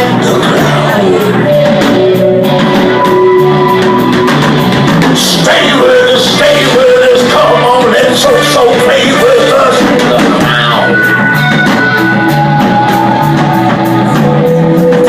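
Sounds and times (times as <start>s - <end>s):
drum kit cymbal beat: 0.0s - 15.0s
rock band music: 0.0s - 15.0s.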